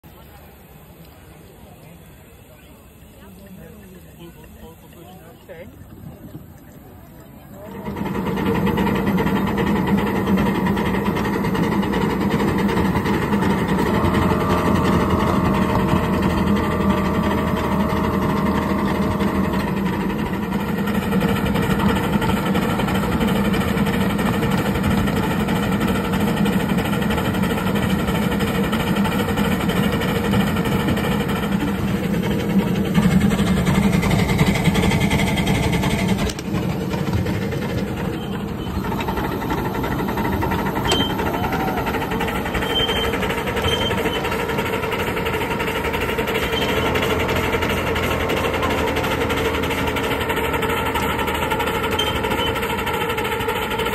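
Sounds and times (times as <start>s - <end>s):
steam locomotive running gear: 0.0s - 53.9s.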